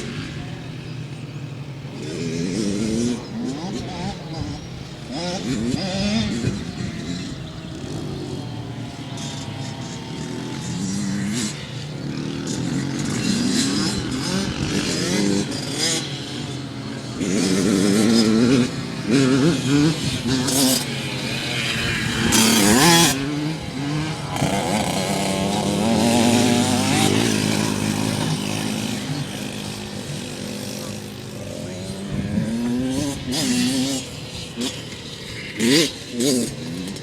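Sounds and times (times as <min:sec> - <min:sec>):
dirt bike engines revving: 0:00.0 - 0:37.0.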